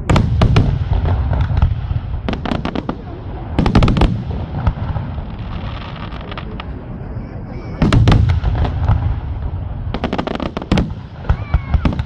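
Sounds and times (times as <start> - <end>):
crackling firework bangs: 0.0 - 6.9, 7.8 - 12.0.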